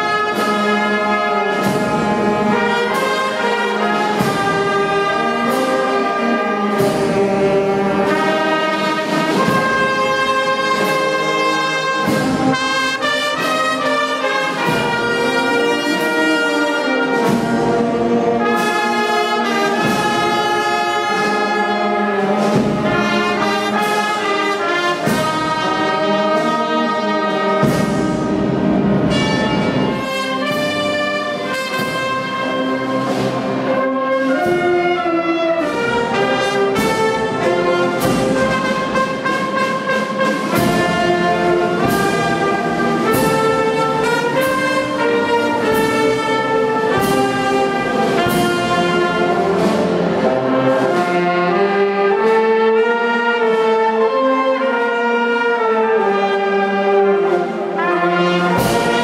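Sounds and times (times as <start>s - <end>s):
brass ensemble playing chords: 0.0s - 59.0s.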